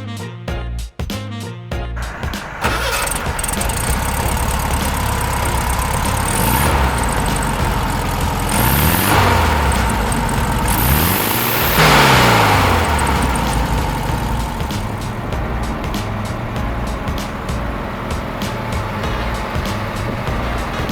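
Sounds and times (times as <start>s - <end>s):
car engine idling and revving: 2.0s - 20.9s.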